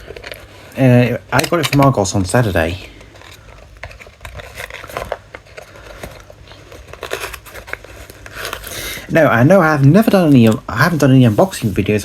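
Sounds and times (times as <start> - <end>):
packaging crinkles and clicks: 0.0 - 10.7.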